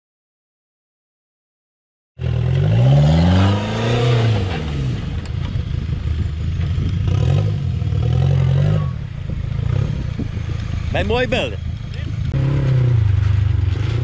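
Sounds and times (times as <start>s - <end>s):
off-road vehicle engine revving: 2.2s - 14.0s.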